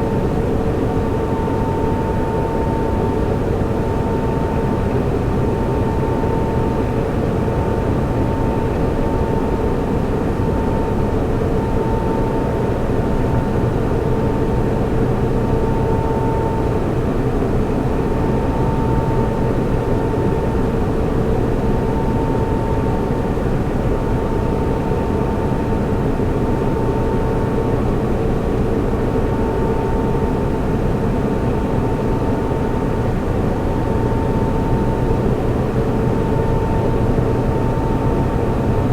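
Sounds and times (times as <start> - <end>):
cooling fans rushing: 0.0 - 38.9
mid-pitched whine: 0.0 - 38.9.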